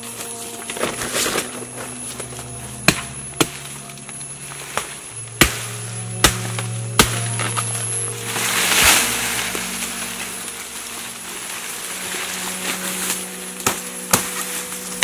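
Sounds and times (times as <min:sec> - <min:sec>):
low droning background music: 0:00.0 - 0:15.0.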